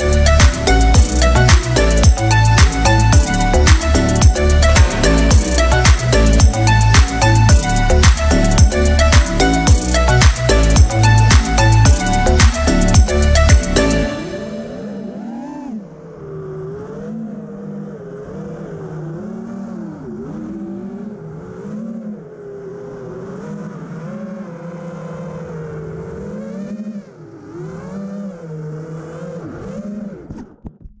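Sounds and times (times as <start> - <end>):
quadcopter motors buzzing whine: 0.0 - 30.4.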